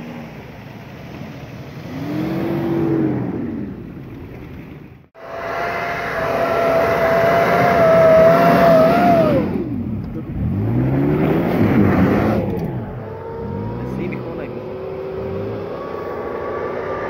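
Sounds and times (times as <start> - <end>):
car engine revving hard: 1.8 - 3.9, 5.2 - 17.0.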